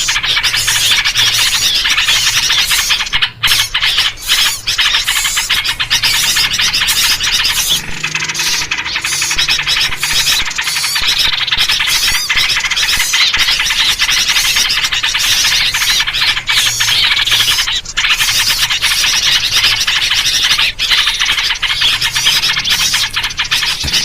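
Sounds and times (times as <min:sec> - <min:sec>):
many small birds chirping: 0:00.0 - 0:24.0.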